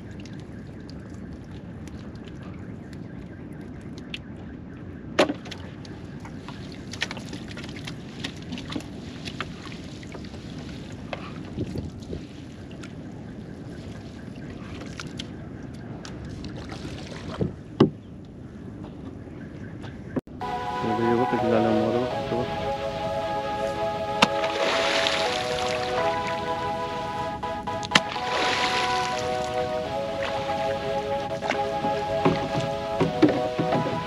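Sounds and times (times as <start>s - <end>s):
water lapping along boat hull: 0.0s - 19.2s, 22.1s - 34.0s.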